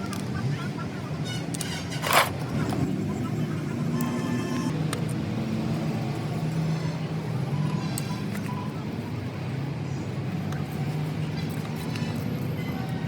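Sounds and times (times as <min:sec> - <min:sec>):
faint road noise: 0:00.0 - 0:13.0
vehicle engine humming: 0:00.0 - 0:13.0.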